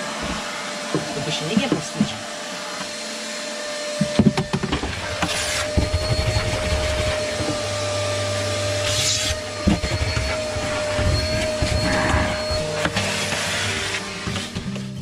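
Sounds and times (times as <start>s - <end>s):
vacuum cleaner whine: 0.0s - 15.0s.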